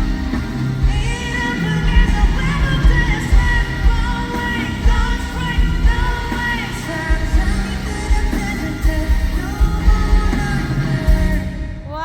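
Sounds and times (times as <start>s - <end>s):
heavy bass beat: 0.0s - 12.0s
live pop-rock music: 0.0s - 12.0s
person singing: 0.0s - 12.0s.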